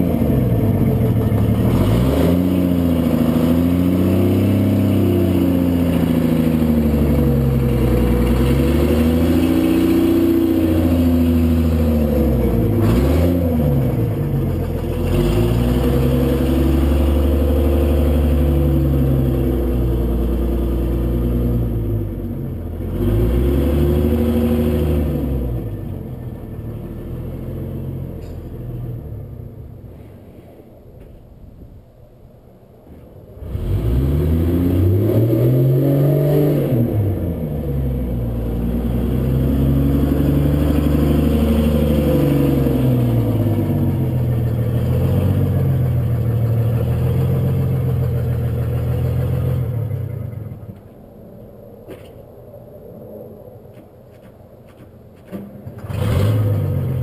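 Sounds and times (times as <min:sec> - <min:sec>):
diesel bus engine revving: 0:00.0 - 0:29.7, 0:33.4 - 0:50.8, 0:55.7 - 0:57.0.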